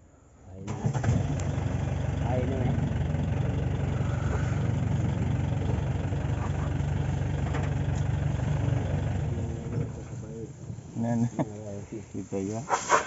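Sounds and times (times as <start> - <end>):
vehicle engine idling: 0.6 - 12.5.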